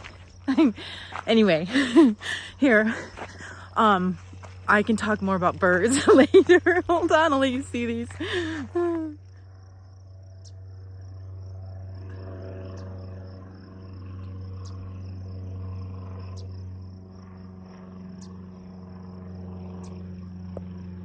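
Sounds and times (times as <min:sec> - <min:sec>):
airplane engine drone: 0:00.0 - 0:21.0.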